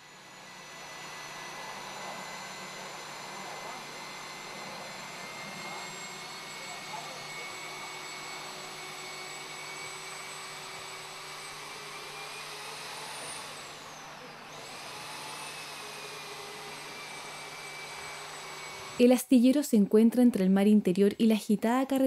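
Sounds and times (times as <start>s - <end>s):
motor drone with high whine: 0.0s - 19.0s.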